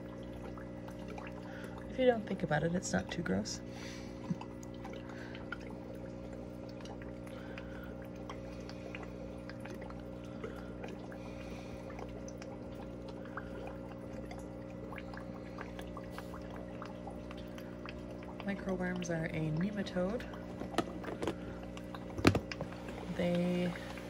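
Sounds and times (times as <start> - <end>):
aquarium filter hum: 0.0 - 24.0
water trickling: 0.0 - 24.0.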